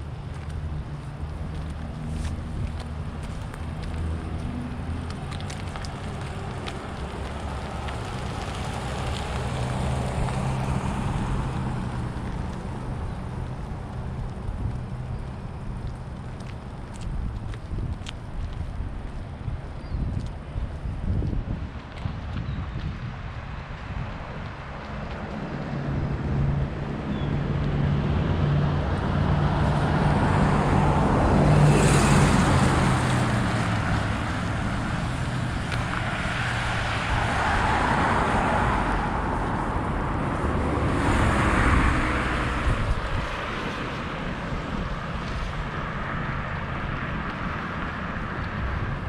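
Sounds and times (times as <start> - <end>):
cars driving past: 0.0 - 19.6, 22.9 - 49.0.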